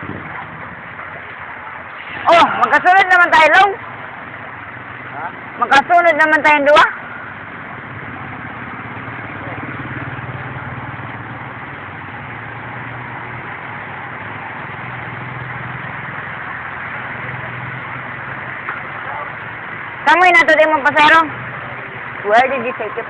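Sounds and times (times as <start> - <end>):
rain hissing: 0.0 - 5.8, 6.7 - 23.0
vehicle engine idling: 0.0 - 23.0.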